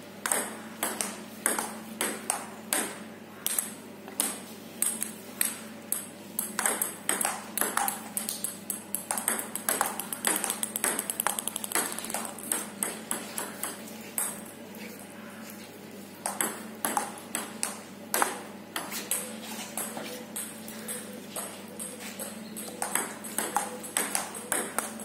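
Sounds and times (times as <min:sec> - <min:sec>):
table tennis ball hitting paddles: 0:00.2 - 0:14.5, 0:16.2 - 0:25.0.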